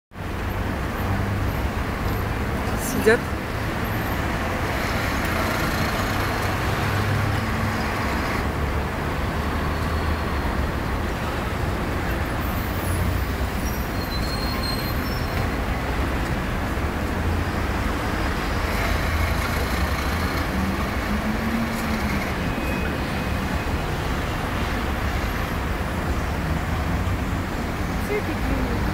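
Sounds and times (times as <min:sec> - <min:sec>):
cars passing: 0:00.2 - 0:28.9.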